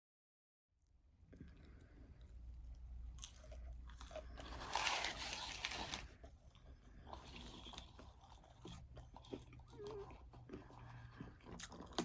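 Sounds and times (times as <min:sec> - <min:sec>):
person crunching and chewing food: 0:01.2 - 0:12.0.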